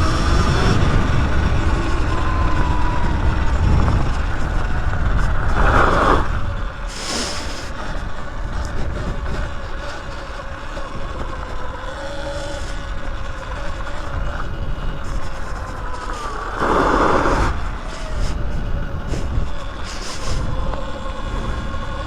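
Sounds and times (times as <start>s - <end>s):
electric motor whine: 0.0s - 22.0s
wind rumble on microphone: 0.0s - 22.0s.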